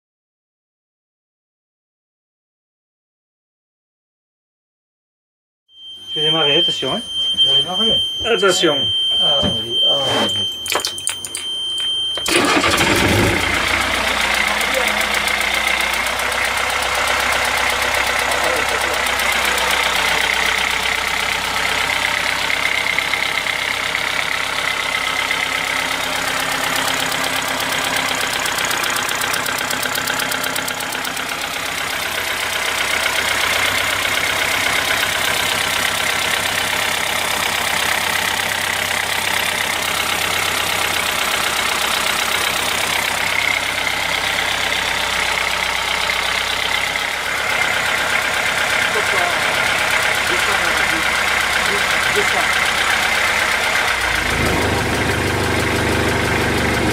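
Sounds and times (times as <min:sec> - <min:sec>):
diesel engine clattering: 0:07.4 - 0:56.9.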